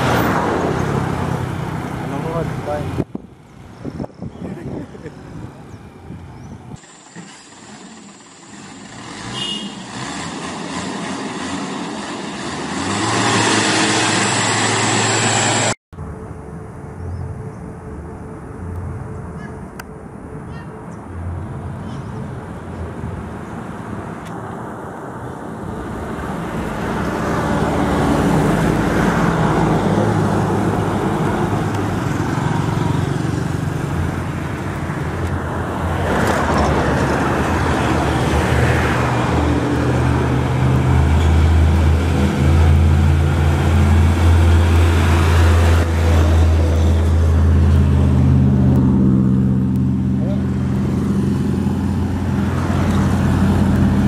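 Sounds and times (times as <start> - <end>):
road traffic passing: 0.0 - 54.0
truck engine drone: 4.6 - 54.0.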